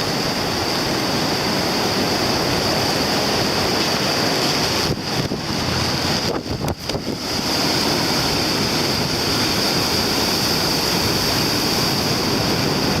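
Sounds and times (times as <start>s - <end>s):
rough surf pounding: 0.0s - 13.0s
wind buffeting microphone: 0.0s - 13.0s.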